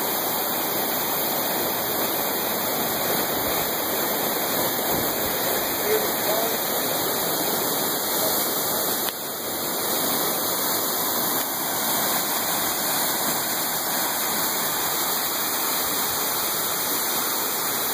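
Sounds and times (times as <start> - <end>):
waterfall pouring into pool: 0.0 - 17.9.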